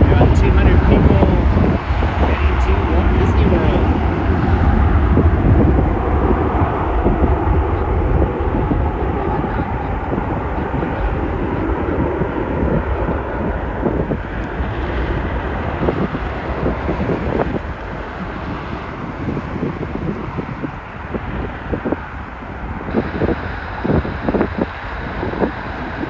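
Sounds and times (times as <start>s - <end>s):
jet engines rumbling: 0.0s - 26.0s
wind buffeting microphone: 0.0s - 26.0s.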